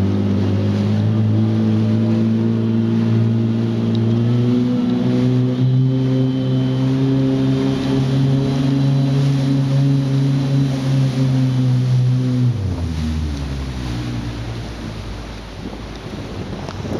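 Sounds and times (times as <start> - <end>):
jet ski engine running: 0.0 - 16.9.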